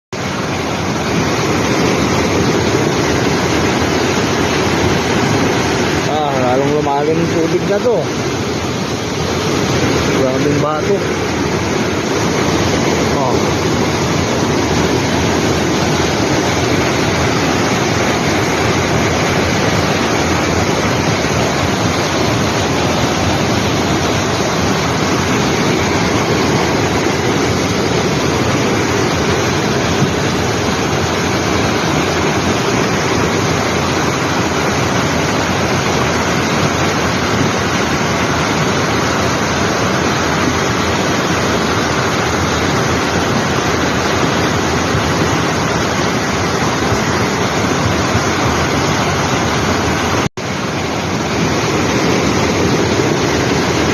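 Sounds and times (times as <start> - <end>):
floodwater rushing over rocks: 0.1 - 53.9.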